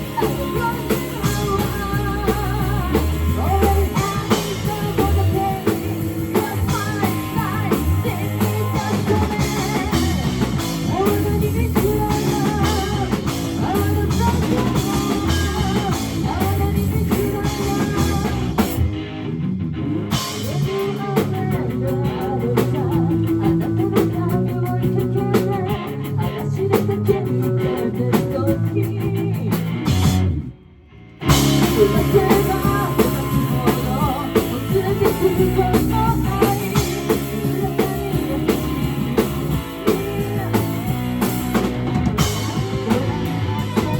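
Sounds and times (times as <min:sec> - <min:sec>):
person singing: 0:00.0 - 0:18.8, 0:20.2 - 0:29.9, 0:31.3 - 0:43.9
drum kit: 0:00.0 - 0:30.5, 0:31.2 - 0:43.9
guitar: 0:00.0 - 0:43.9
rock band playing live: 0:00.0 - 0:43.9.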